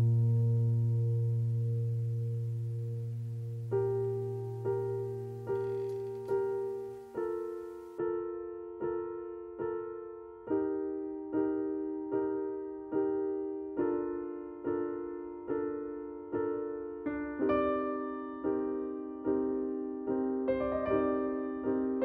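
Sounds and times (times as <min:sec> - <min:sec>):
gentle piano chords: 0:00.0 - 0:22.0.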